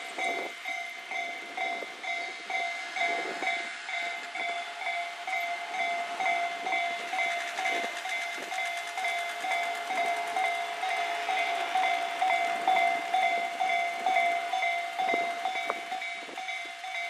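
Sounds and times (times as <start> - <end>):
railway crossing bell ringing: 0.0 - 17.0
train wheels clacking on rails: 0.0 - 17.0.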